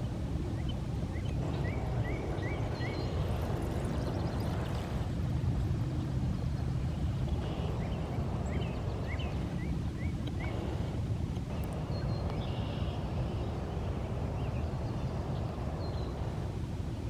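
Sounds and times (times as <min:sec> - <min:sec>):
steady low rumble: 0:00.0 - 0:17.0
small birds chirping: 0:00.4 - 0:16.5.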